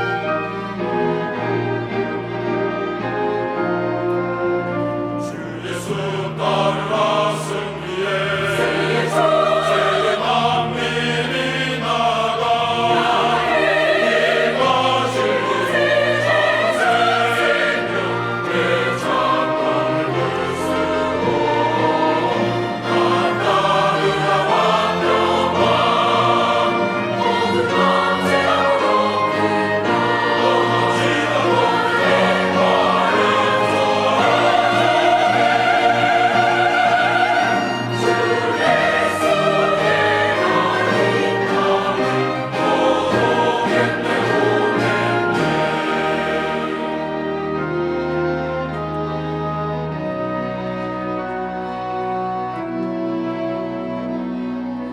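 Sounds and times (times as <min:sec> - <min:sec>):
choir singing: 0:00.0 - 0:54.9
organ: 0:00.0 - 0:54.9
piano: 0:00.0 - 0:54.9
strings: 0:00.0 - 0:54.9
wind instruments: 0:00.0 - 0:54.9.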